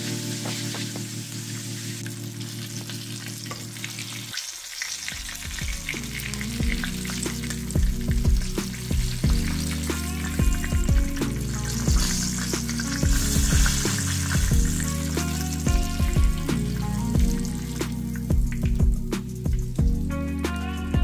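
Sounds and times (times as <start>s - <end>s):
background music with low notes: 0.0s - 21.0s
food sizzling in hot oil: 0.0s - 21.0s.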